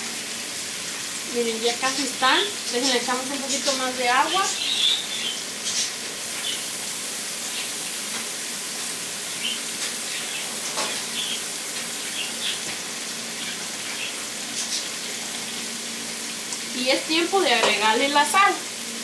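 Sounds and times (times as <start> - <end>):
food sizzling: 0.0 - 19.0.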